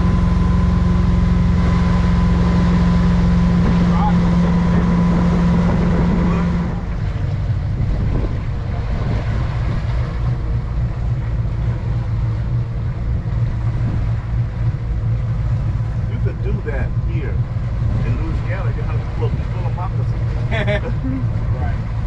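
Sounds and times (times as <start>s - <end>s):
motorboat engine running: 0.0s - 22.0s
wind on microphone: 0.0s - 22.0s.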